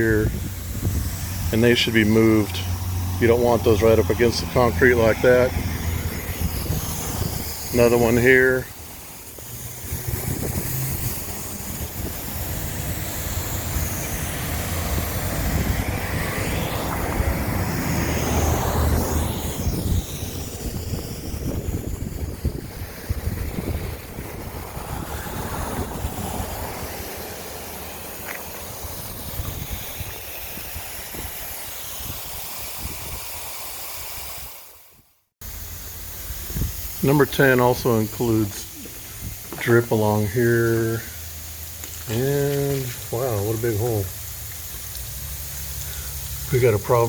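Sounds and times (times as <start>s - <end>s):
rumbling outdoor noise: 0.0s - 33.4s, 35.4s - 47.0s
hiss: 0.0s - 47.0s.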